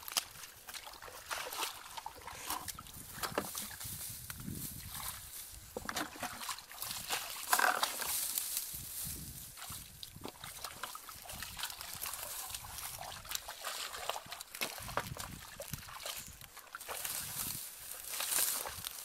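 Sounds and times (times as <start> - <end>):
water splashing: 0.0 - 3.8, 5.8 - 8.3, 9.6 - 18.8
bare feet squelching through mud: 0.0 - 19.0
dry straw crackling underfoot: 0.0 - 19.0.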